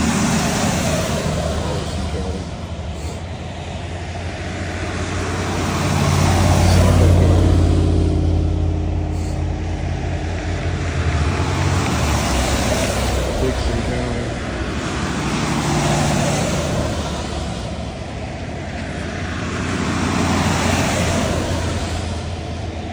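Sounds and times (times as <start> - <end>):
bus driving past: 0.0 - 22.9.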